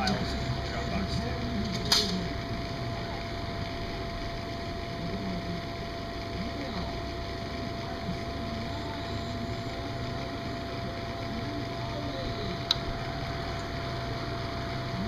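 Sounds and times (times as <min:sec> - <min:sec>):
blower fan humming: 0:00.0 - 0:15.0
thin whine: 0:00.0 - 0:15.0.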